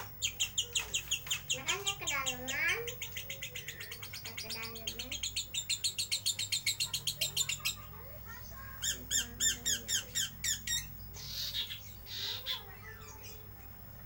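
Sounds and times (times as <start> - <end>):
short raspy bird noises: 0.0 - 13.5
lovebird chirping: 0.0 - 13.8.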